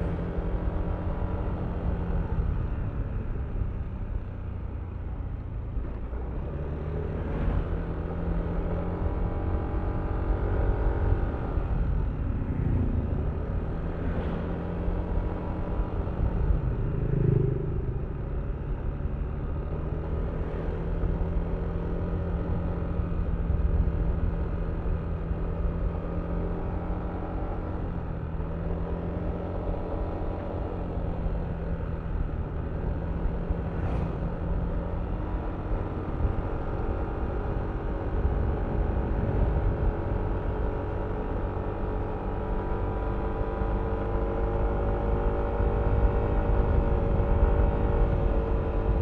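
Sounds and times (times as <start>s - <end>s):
low wind rumble: 0.0s - 49.0s.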